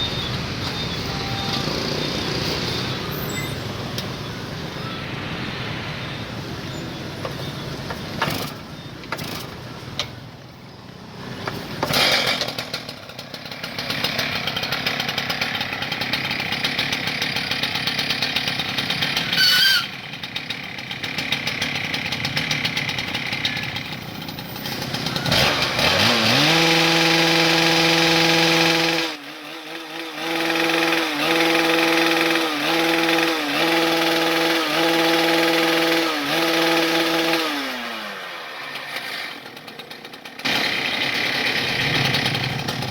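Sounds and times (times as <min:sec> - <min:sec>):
cut-off saw engine revving: 0:00.0 - 0:08.6, 0:11.8 - 0:20.4, 0:21.0 - 0:42.9.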